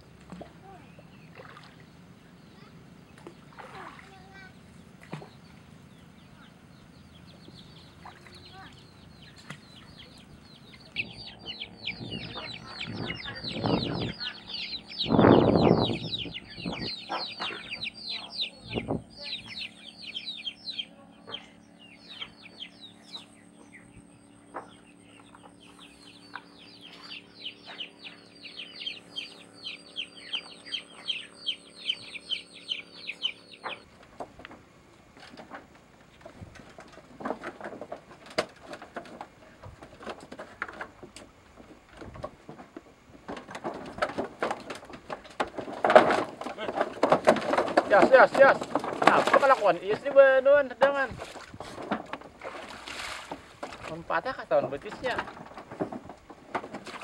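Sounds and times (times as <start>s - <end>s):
steady low hum: 0.0s - 57.0s
birds chirping rapidly: 0.6s - 34.8s, 42.9s - 57.0s.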